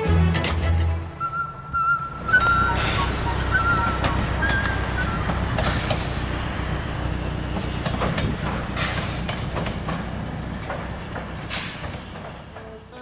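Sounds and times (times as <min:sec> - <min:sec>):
train rumbling along track: 0:00.0 - 0:13.0
wheels clacking over rail joints: 0:00.0 - 0:13.0.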